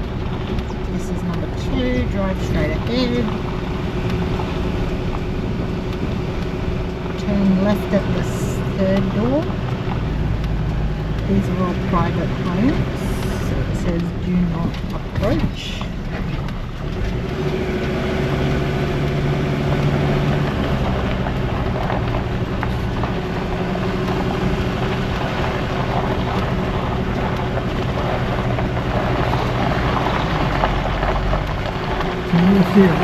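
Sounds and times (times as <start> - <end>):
engine and road noise hum: 0.0 - 33.0.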